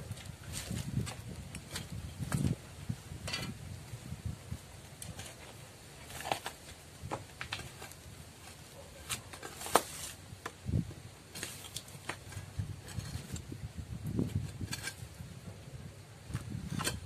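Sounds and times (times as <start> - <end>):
metal bar scraping soil and stones: 0.1 - 2.6, 3.2 - 3.6, 4.9 - 10.5, 11.3 - 17.0.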